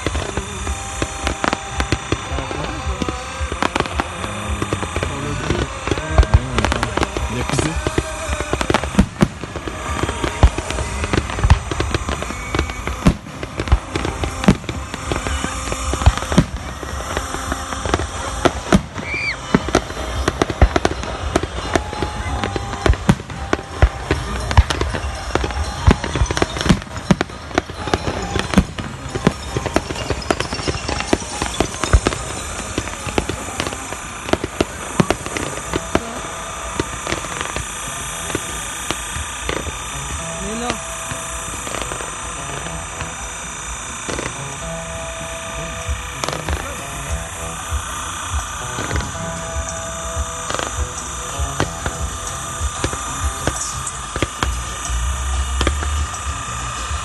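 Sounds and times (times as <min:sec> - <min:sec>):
fireworks bursts and crackles: 0:00.0 - 0:57.0.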